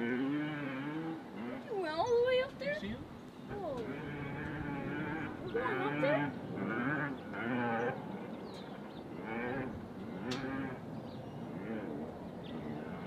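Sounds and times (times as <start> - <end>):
farm animals calling: 0.0 - 13.0.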